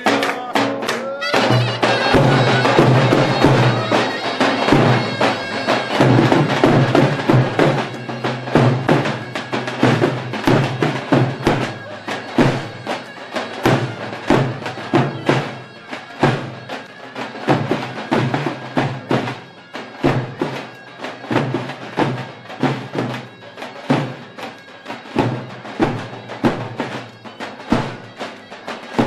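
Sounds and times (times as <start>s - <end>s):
reedy shawm melody: 0.0s - 29.0s.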